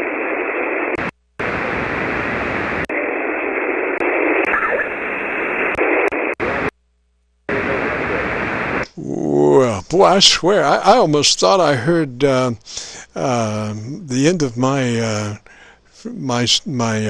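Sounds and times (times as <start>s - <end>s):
radio receiver hiss: 0.0s - 11.6s, 12.2s - 17.0s.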